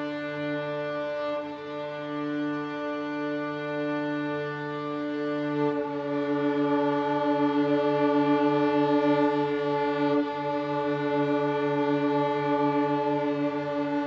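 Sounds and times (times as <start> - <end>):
chamber ensemble long low note: 0.0 - 14.0.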